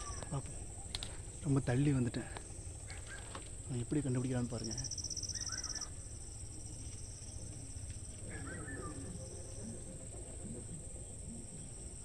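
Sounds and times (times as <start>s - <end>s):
insects droning: 0.0s - 12.0s
rapid pulsing insect trill: 0.0s - 12.0s.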